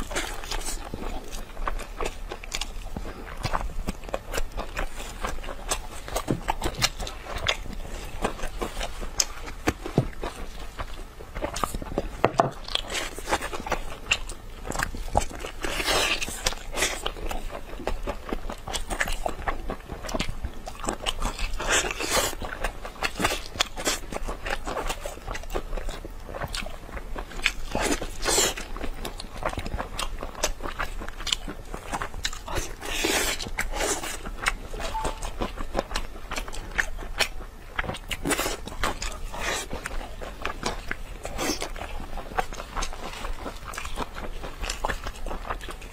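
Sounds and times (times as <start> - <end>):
biting and chewing ribs: 0.0 - 45.9.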